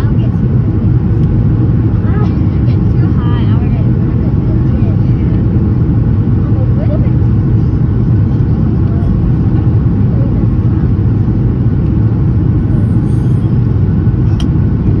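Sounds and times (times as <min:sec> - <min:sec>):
loud low rumble of jet engines: 0:00.0 - 0:15.0.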